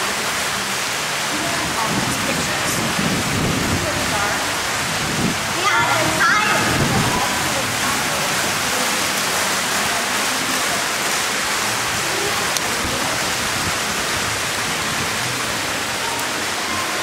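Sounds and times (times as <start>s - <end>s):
fountain jets splashing into pool: 0.0s - 17.0s.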